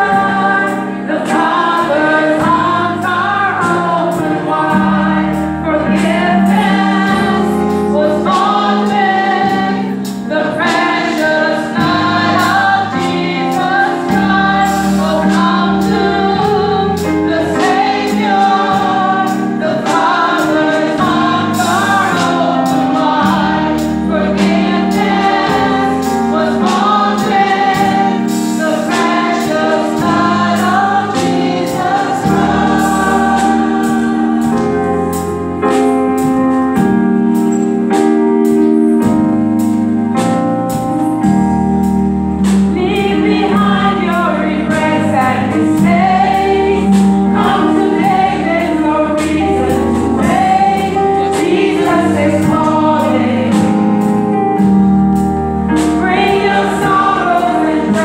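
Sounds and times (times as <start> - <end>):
gospel choir singing: 0.0 - 36.4, 42.4 - 58.0
band accompaniment: 0.0 - 58.0.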